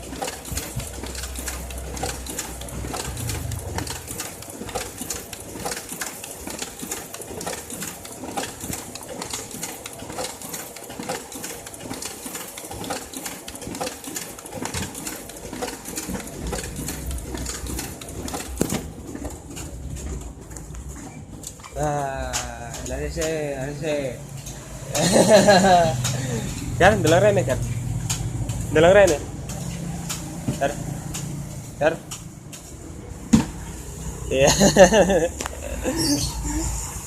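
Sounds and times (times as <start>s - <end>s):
photocopier running: 0.0s - 37.0s.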